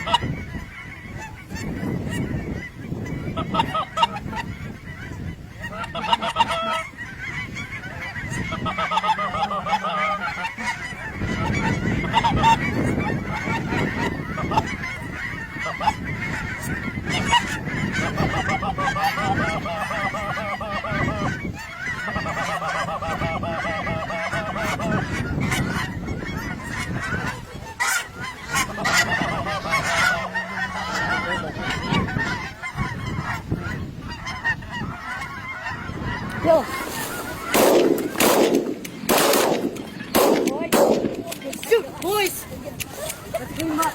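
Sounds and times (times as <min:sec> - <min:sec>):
geese honking: 0:00.0 - 0:43.9.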